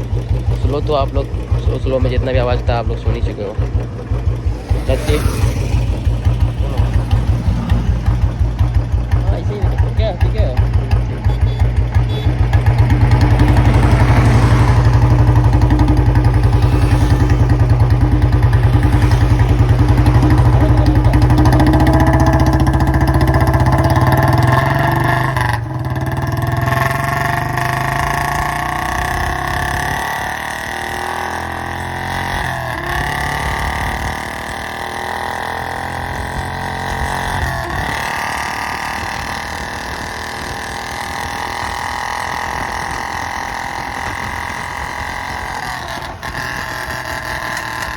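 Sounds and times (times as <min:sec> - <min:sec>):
motorcycle engine pulsing exhaust: 0:00.0 - 0:47.9.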